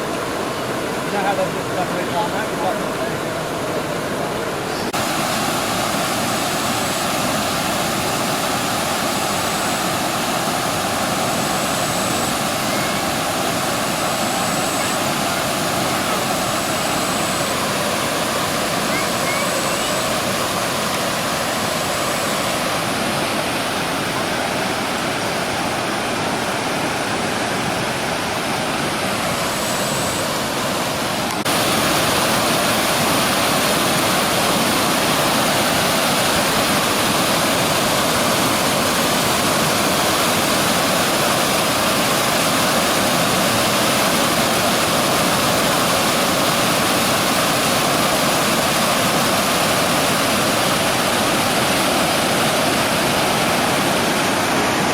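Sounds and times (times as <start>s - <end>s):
floodwater rushing: 0.0s - 54.9s.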